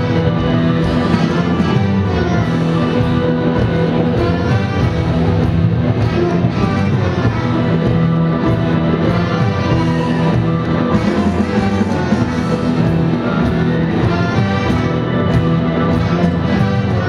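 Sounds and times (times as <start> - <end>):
electric guitar: 0.0 - 17.0
live band playing: 0.0 - 17.0
saxophone: 0.0 - 17.0.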